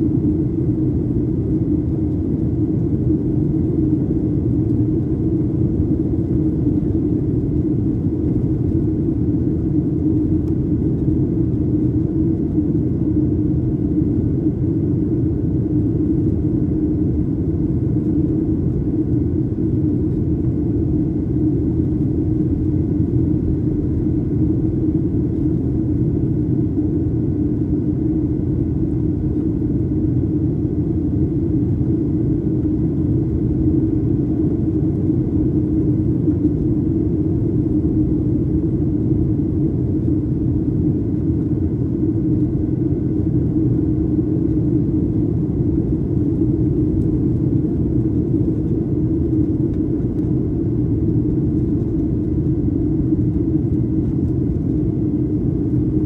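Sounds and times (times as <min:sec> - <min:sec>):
aircraft cabin engine rumble: 0:00.0 - 0:56.0
faint steady whine: 0:00.0 - 0:56.0.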